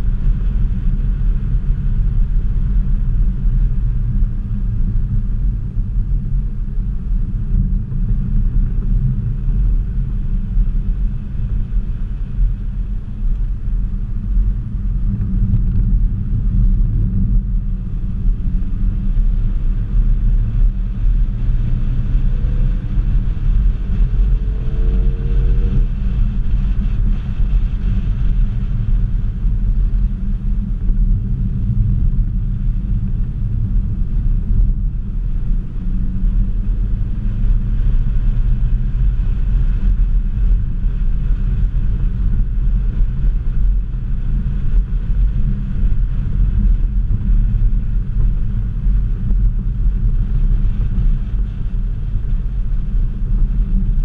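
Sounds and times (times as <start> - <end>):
car engine drone in cabin: 0.0 - 54.0
road rumble: 0.0 - 54.0.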